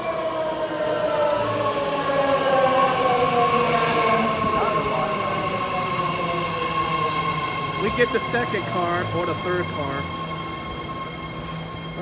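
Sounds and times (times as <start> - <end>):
train cars rumbling: 0.0 - 12.0.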